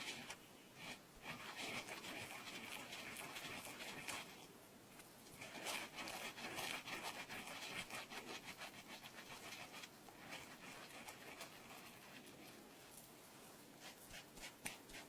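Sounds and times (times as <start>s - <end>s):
scratching on microphone: 0.0s - 4.4s, 5.3s - 15.0s.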